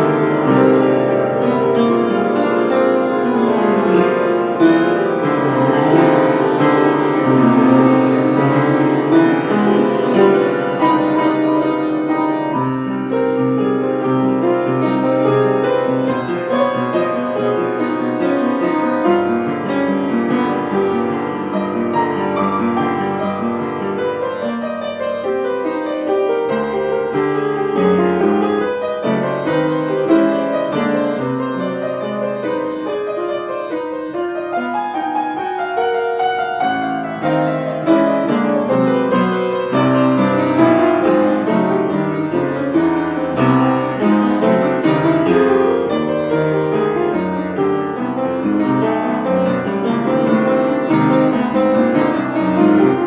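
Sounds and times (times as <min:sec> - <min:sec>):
solo piano improvisation: 0:00.0 - 0:53.0.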